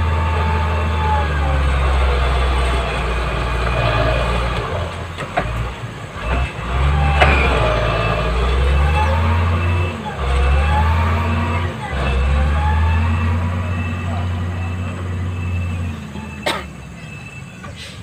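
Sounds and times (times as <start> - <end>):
diesel engine rumbling under load: 0.0 - 18.0.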